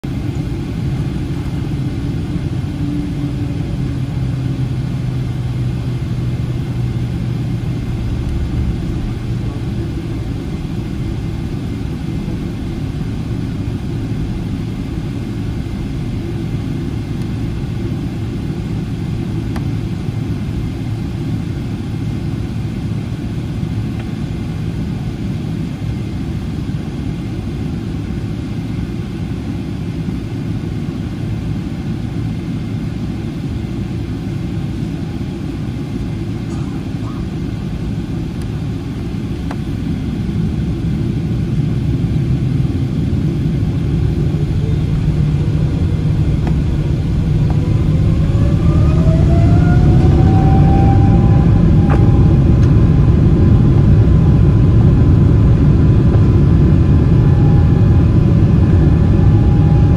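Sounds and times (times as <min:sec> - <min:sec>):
low hum: 0:00.0 - 0:24.5, 0:33.2 - 0:59.9
jet engine rumble in cabin: 0:00.0 - 0:59.9.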